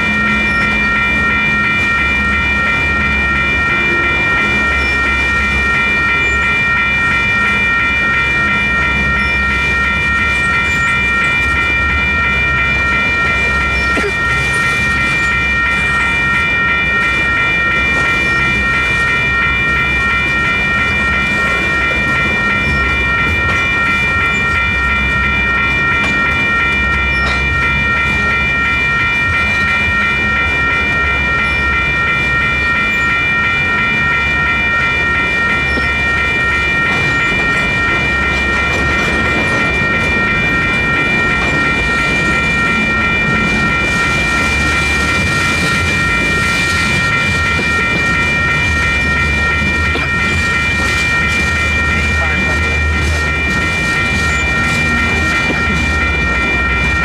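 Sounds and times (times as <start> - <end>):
freight train cars rolling past: 0.0 - 57.0
railroad crossing bells ringing: 0.0 - 57.0.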